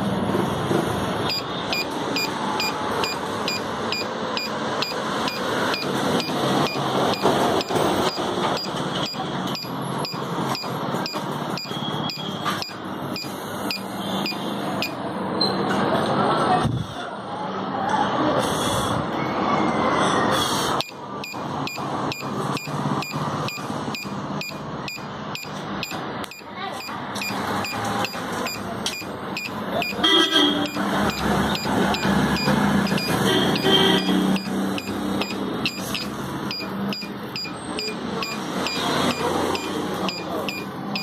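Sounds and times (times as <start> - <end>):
piezo buzzer chirps: 1.3 - 15.0, 20.8 - 41.0.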